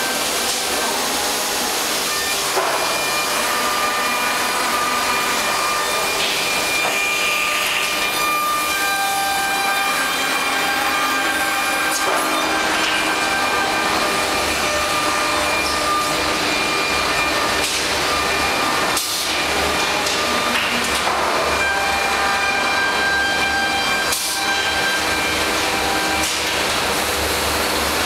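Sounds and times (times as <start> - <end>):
woodworking machine whining: 0.0 - 28.0.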